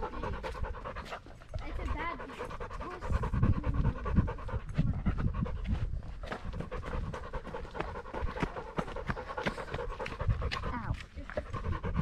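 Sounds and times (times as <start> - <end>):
dog panting heavily: 0.0 - 12.0.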